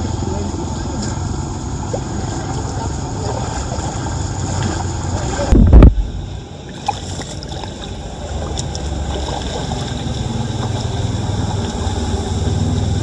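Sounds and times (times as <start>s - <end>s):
floodwater running: 0.0s - 13.0s
low hum: 0.0s - 13.0s.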